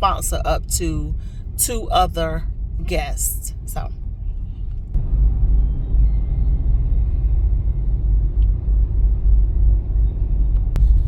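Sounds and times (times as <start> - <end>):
vehicle driving rumble: 0.0 - 11.0.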